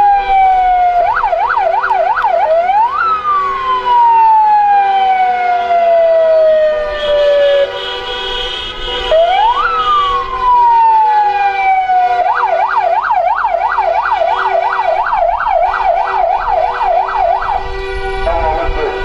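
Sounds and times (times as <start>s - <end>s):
electronic siren wailing and yelping: 0.0s - 7.6s, 9.1s - 17.6s.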